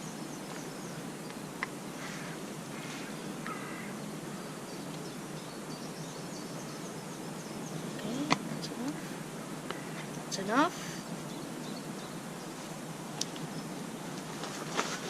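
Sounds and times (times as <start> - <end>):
birds calling: 0.0 - 15.0
woodland ambience hiss: 0.0 - 15.0.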